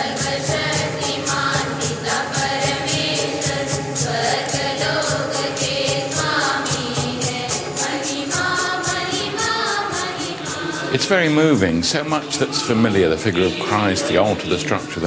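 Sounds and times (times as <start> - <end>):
congregation singing a hymn: 0.0 - 15.0
percussion beat: 0.0 - 15.0.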